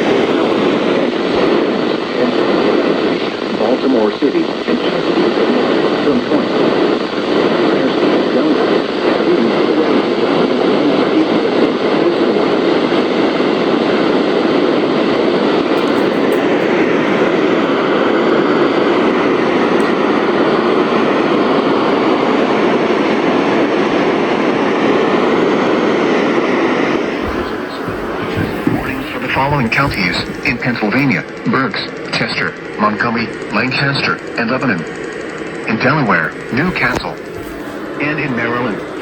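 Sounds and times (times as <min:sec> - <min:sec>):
radio static hiss: 0:00.0 - 0:22.4, 0:24.4 - 0:39.0.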